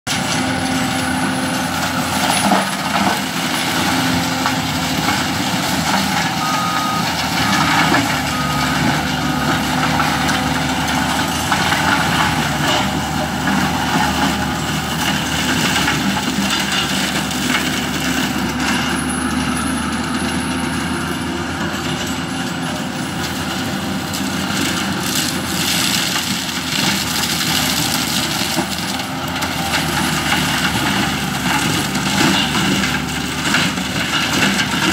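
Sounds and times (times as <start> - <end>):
diesel engine running hard: 0.0 - 34.9
mulcher drum grinding brush: 0.1 - 19.8, 20.5 - 34.9
wood striking cutter: 0.1 - 34.9.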